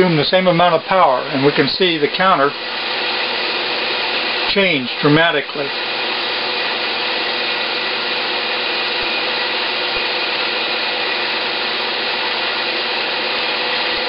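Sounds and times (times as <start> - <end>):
faint steady whine: 0.0 - 14.0
small fan motor whirring: 0.0 - 14.0.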